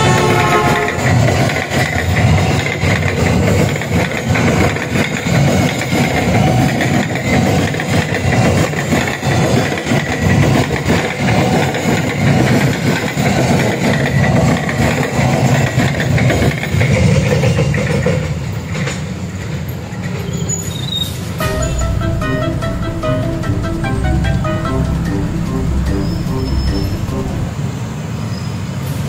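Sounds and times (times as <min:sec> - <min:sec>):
freight train rumbling past: 0:00.0 - 0:20.1, 0:21.2 - 0:29.0.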